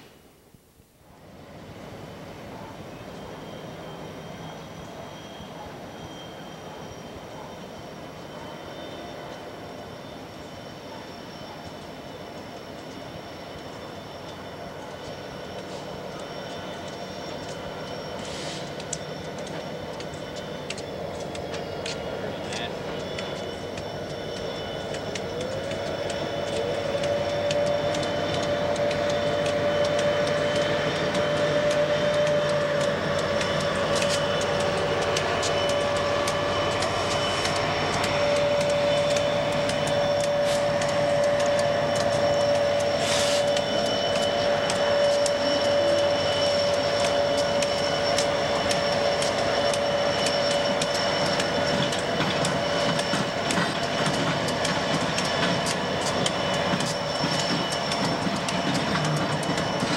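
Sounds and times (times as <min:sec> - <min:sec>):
train rumbling past: 0:01.0 - 0:59.9.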